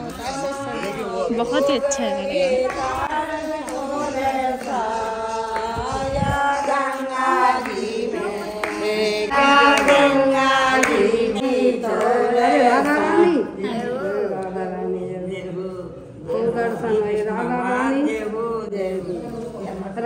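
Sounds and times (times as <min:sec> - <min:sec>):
chant-like devotional singing: 0:00.0 - 0:20.0.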